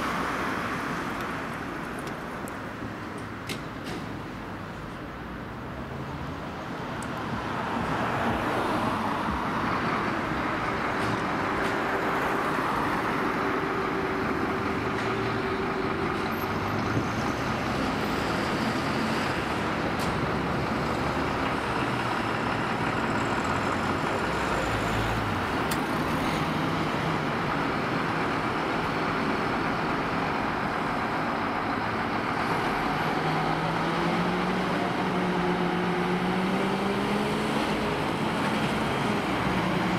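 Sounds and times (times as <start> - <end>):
diesel fire truck engines rumbling: 0.0 - 39.9
fire engine pulling out: 5.7 - 39.9.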